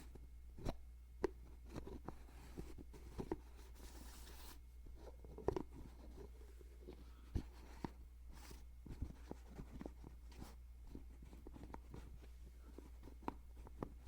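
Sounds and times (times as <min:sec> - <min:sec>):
steady low hum: 0:00.0 - 0:14.0
handling noises on microphone: 0:01.4 - 0:14.0.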